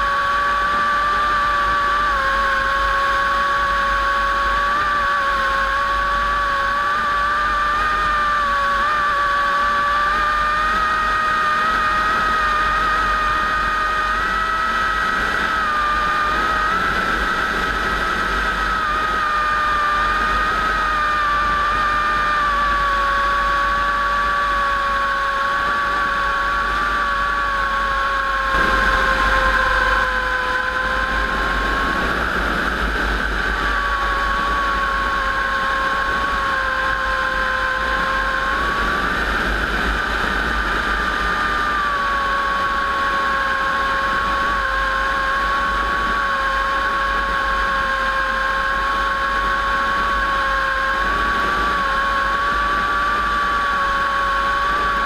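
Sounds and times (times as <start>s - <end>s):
propeller aircraft engines running: 0.0s - 55.0s.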